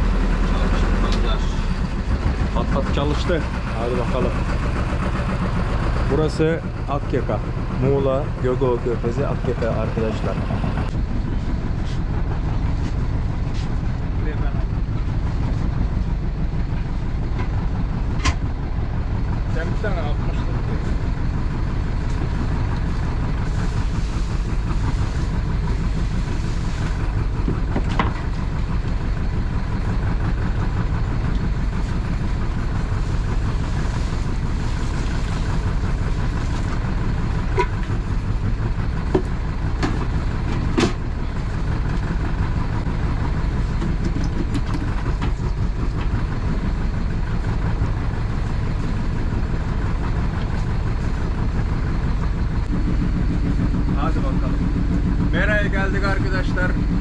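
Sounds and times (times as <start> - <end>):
boat engine rumbling: 0.0 - 57.0.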